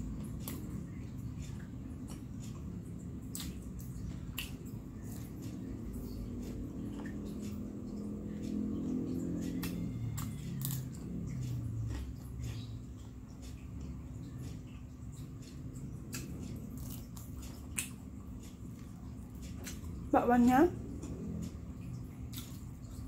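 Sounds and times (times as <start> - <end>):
chewing with wet mouth sounds: 0.0 - 23.0.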